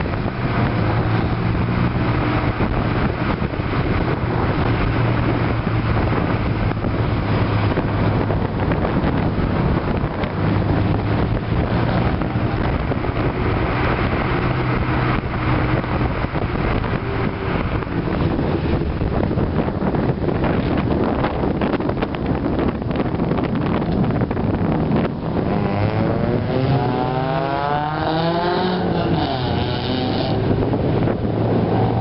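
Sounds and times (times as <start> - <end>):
car engine and tyre noise: 0.0 - 32.0
wind buffeting microphone: 0.0 - 32.0.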